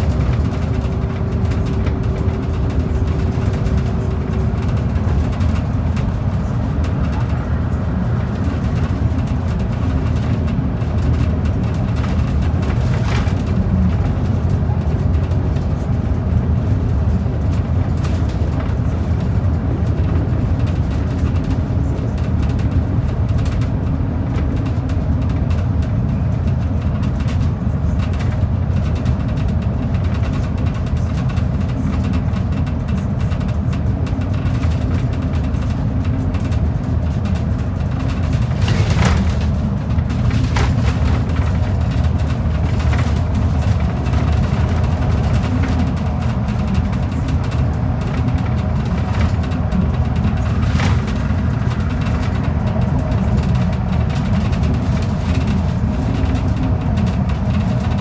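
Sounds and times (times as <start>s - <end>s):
bus engine rumble: 0.0s - 58.0s
road noise: 0.0s - 58.0s.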